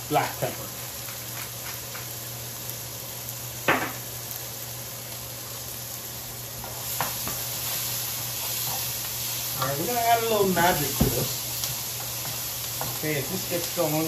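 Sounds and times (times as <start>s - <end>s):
vegetables sizzling in frying pan: 0.0s - 14.0s.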